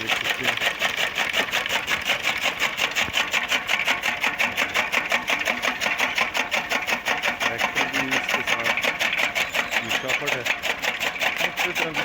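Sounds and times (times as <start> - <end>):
chaff cutter clattering: 0.0 - 12.0.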